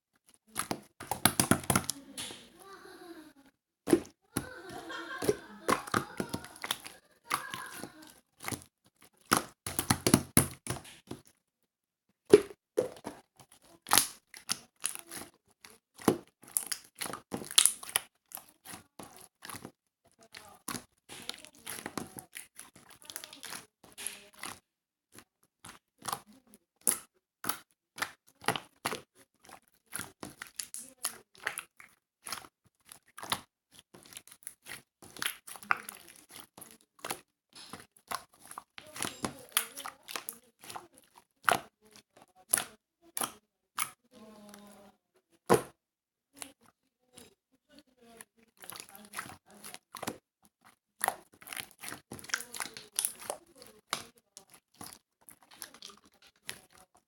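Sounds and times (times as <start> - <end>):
crackling and crinkling: 0.1 - 11.5, 12.3 - 57.0.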